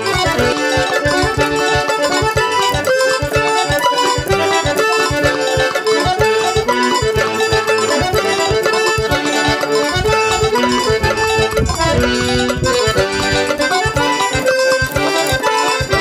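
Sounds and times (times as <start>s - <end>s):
accordion folk music: 0.0s - 16.0s
quick low beat: 0.0s - 16.0s.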